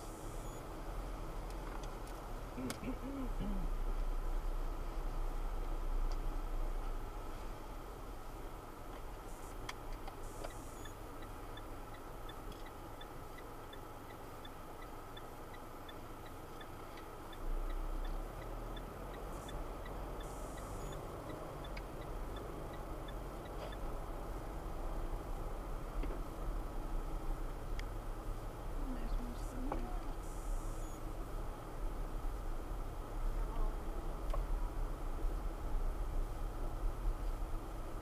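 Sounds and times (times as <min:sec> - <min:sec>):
car road and engine noise: 0:00.0 - 0:38.0.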